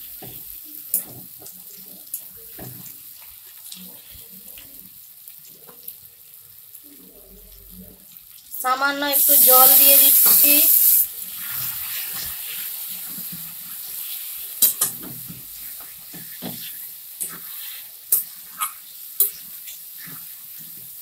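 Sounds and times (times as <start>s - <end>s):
sauce sizzling in a pan: 0.0s - 21.0s.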